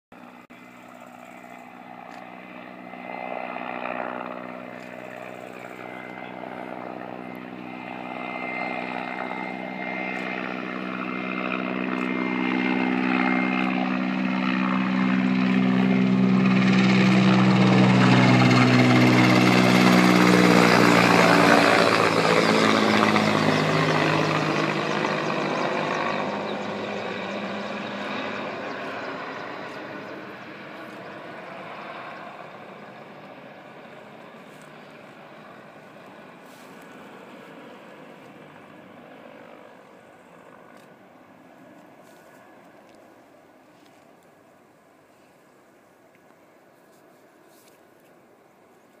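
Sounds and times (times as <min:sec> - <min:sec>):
helicopter flying overhead: 0:00.1 - 0:49.0.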